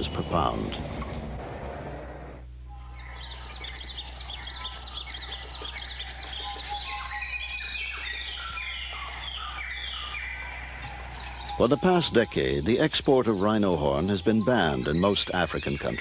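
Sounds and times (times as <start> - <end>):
birds chirping and whistling: 0.0 - 1.2, 2.7 - 16.0
low steady hum: 0.0 - 16.0.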